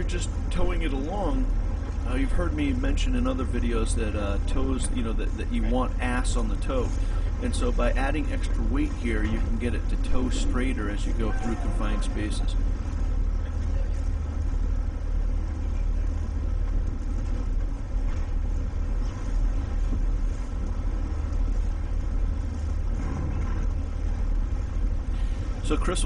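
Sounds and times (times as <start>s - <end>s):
diesel boat engines rumbling: 0.0s - 26.0s.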